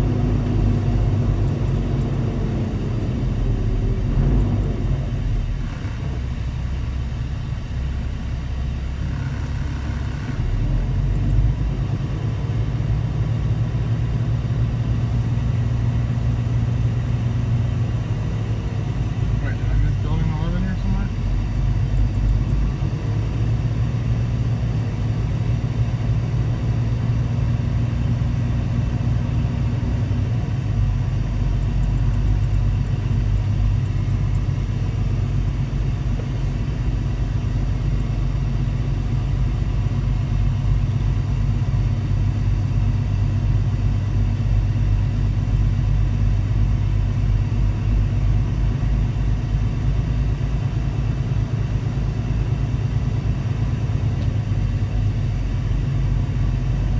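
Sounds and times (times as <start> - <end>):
truck diesel engine rumbling: 0.0 - 56.9.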